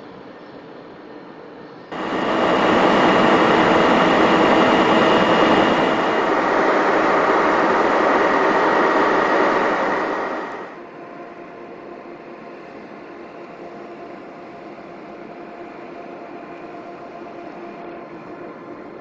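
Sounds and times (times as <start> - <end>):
faint steady tones: 1.9 - 19.0
train rushing at speed: 1.9 - 19.0.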